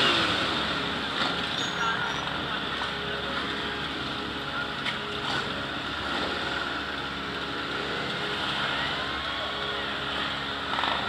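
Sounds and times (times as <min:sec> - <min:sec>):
motorcycle engines idling: 0:00.0 - 0:11.0
trike engine close by: 0:00.0 - 0:11.0.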